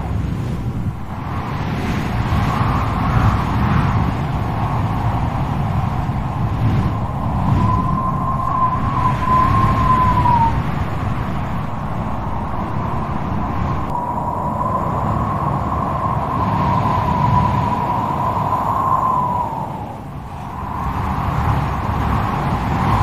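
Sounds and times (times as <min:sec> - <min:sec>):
wind gusting with whistling howl: 0:00.0 - 0:23.0.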